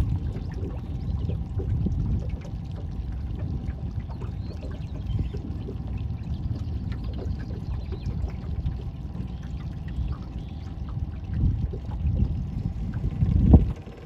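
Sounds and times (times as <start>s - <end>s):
water sloshing and trickling: 0.0s - 14.0s.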